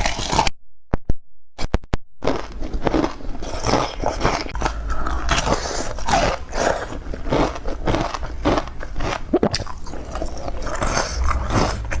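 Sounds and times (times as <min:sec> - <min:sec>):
teeth crunching ice: 0:00.0 - 0:00.5, 0:02.2 - 0:12.0.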